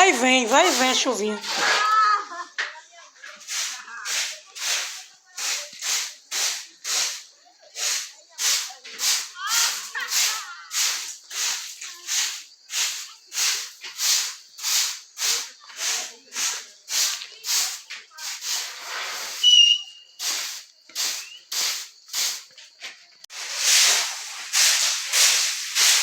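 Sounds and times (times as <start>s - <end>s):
broom sweeping a floor: 0.0s - 2.2s, 3.2s - 26.0s.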